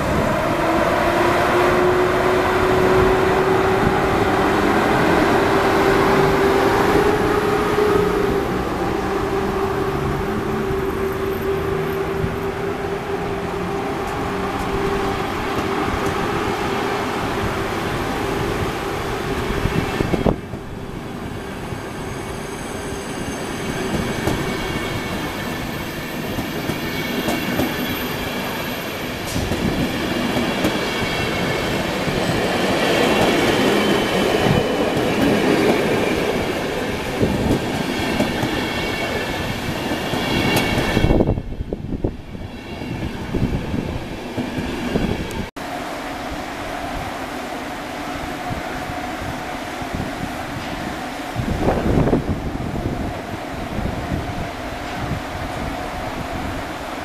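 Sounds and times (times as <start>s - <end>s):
train coaches rolling past: 0.0s - 57.0s.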